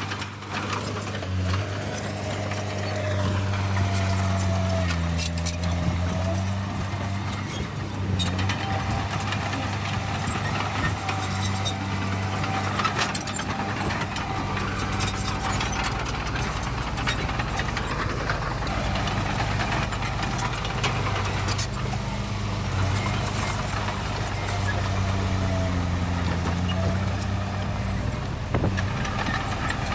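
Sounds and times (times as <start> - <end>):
heavy diesel engine running: 0.0 - 29.9
metallic clanks and rattles: 0.0 - 29.9.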